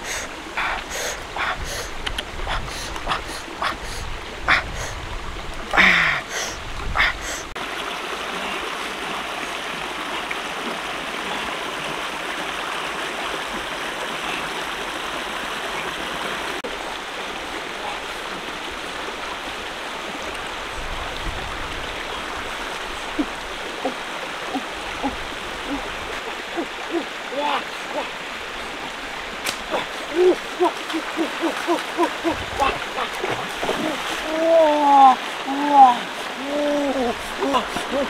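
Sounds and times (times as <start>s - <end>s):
stream gurgling over rocks: 0.0s - 38.0s.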